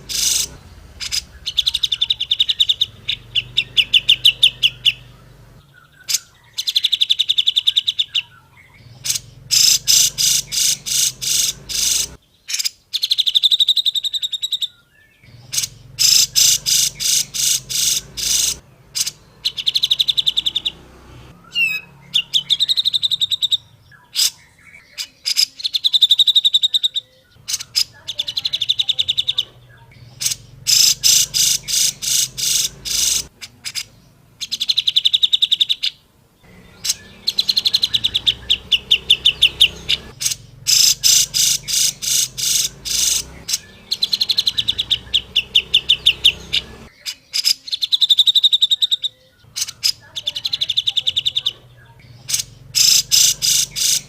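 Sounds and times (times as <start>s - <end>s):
bird chattering trills: 0.0s - 54.0s.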